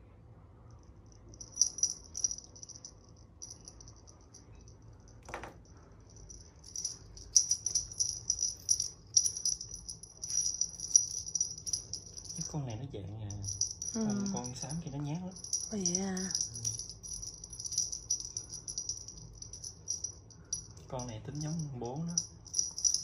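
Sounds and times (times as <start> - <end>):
small jingle bell shaking: 1.3 - 4.6, 6.1 - 23.0.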